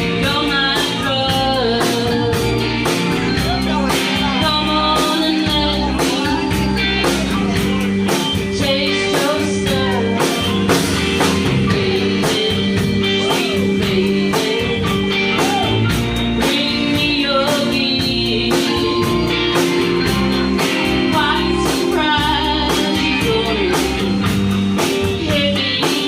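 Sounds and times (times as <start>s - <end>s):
bass guitar: 0.0s - 26.0s
drum kit beat: 0.0s - 26.0s
guitar: 0.0s - 26.0s
person singing: 0.0s - 26.0s.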